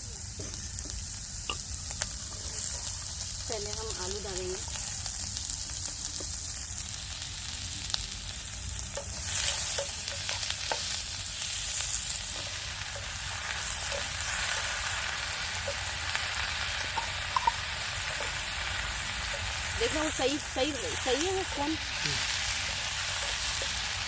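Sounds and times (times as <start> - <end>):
potatoes sizzling in hot oil: 0.0 - 24.0.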